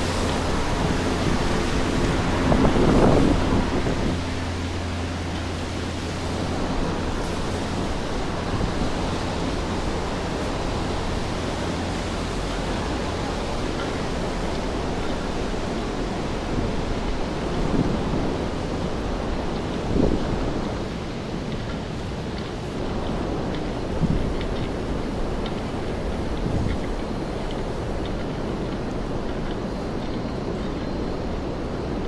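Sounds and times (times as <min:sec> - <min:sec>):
rain on wet pavement: 0:00.0 - 0:31.7
low steady hum: 0:00.0 - 0:32.0.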